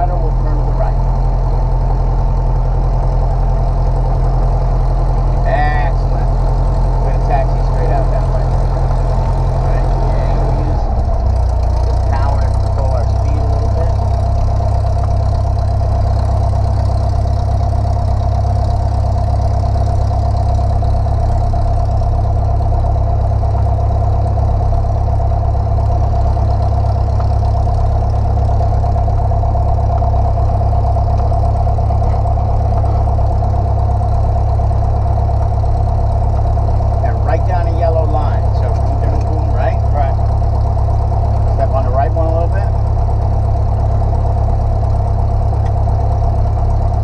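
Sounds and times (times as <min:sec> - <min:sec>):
airplane engine idling: 0:00.0 - 0:47.0
steady whine: 0:00.0 - 0:47.0.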